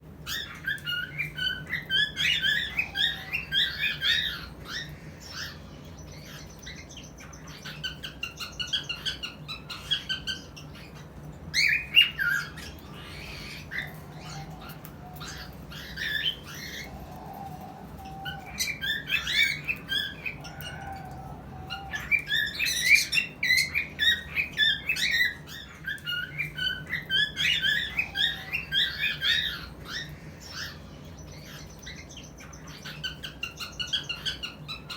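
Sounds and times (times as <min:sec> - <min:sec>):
cockatiels chirping and whistling: 0:00.2 - 0:34.9.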